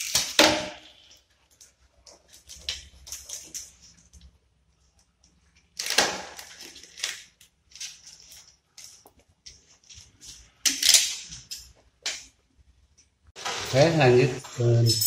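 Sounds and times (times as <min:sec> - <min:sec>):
crinkling and rustling of taped pipe: 0:00.0 - 0:12.3.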